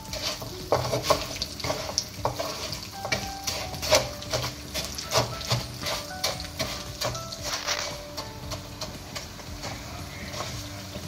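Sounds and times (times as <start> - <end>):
oil sizzling: 0.0 - 11.0
spatula scraping rice in a pan: 0.0 - 11.0.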